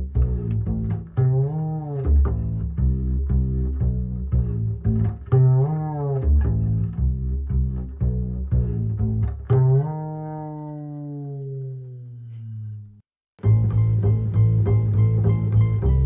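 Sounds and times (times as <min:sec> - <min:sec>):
plucked bass line: 0:00.0 - 0:16.0.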